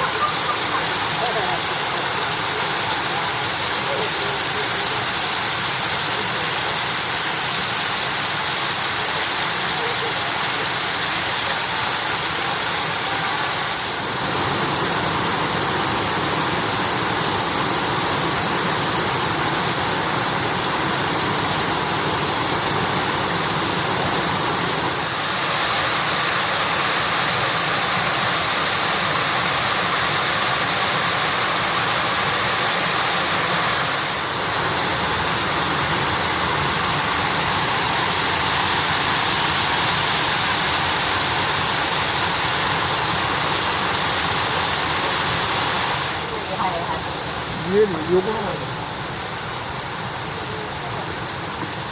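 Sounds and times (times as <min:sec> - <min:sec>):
waterfall rushing and splashing: 0:00.0 - 0:51.9.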